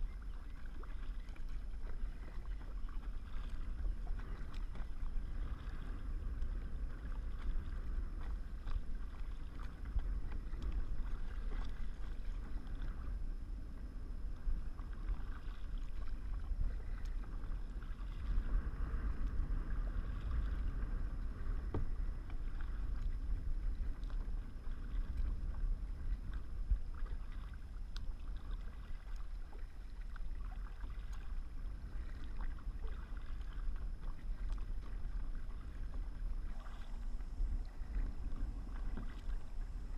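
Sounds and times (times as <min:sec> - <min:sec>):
paddle strokes: 0:00.0 - 0:39.9
steady low rumble: 0:00.0 - 0:39.9
water splashing against hull: 0:00.0 - 0:39.9.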